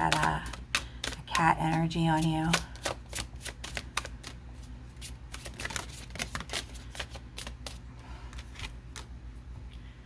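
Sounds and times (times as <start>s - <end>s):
cards being shuffled by hand: 0.0s - 9.2s
steady low hum: 0.0s - 10.0s.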